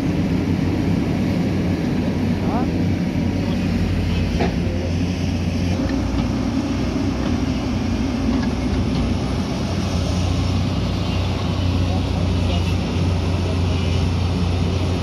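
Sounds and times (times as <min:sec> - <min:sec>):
diesel excavator engines: 0:00.0 - 0:15.0.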